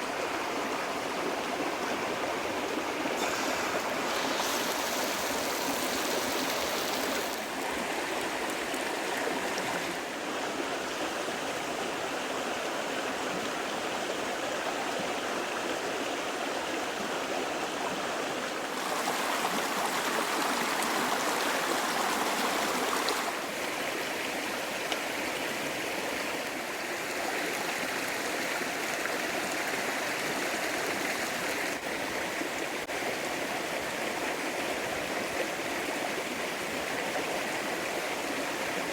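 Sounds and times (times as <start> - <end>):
creek running over rocks: 0.0 - 38.9.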